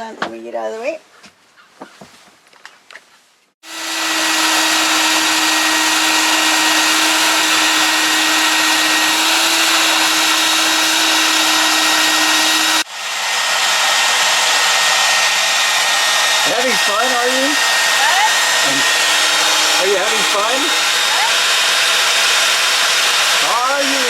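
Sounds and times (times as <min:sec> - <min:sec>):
electric blower motor running: 0:03.6 - 0:24.0.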